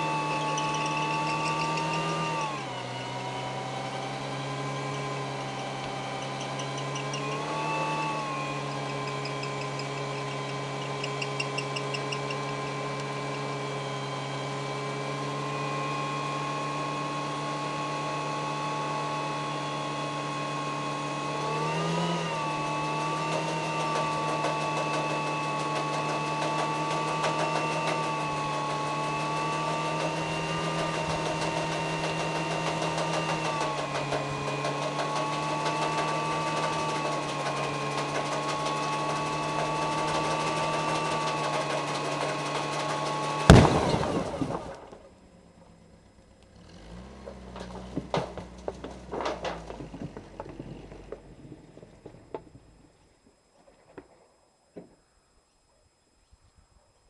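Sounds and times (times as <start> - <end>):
tyres spinning: 0.0 - 19.6, 20.2 - 53.0
car engine revving: 0.0 - 53.0.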